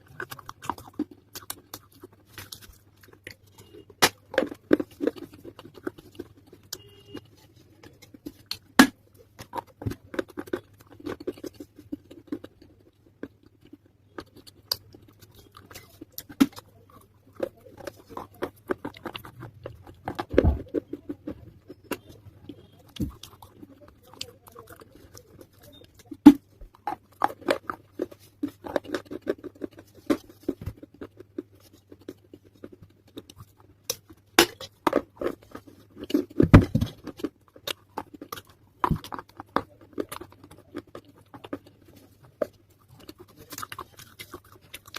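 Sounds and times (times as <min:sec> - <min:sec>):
chewing wet clay crunches: 0:00.0 - 0:44.9.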